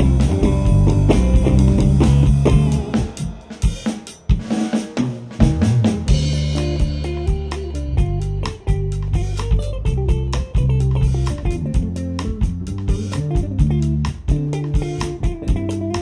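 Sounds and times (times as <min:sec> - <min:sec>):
drum hits: 0:00.0 - 0:16.0
live band playing: 0:00.0 - 0:16.0.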